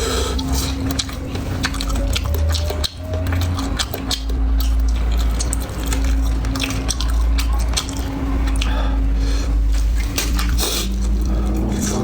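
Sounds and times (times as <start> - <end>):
steady low hum: 0.0 - 12.0
wet chewing and smacking: 0.0 - 12.0.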